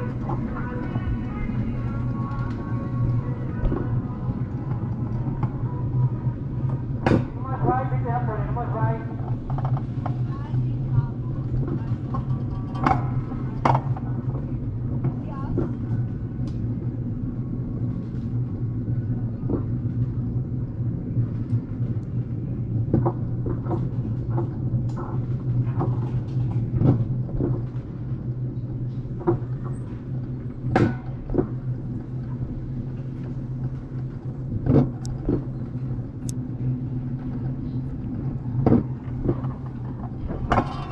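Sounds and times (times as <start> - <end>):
low lift hum: 0.0 - 40.9.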